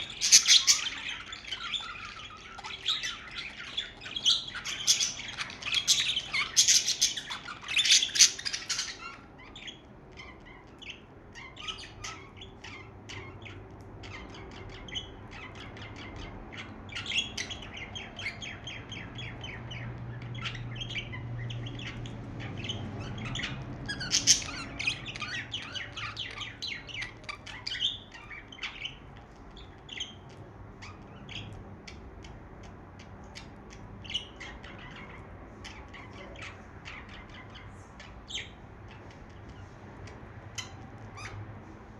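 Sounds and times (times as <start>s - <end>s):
budgerigars chirping: 0.0s - 41.9s.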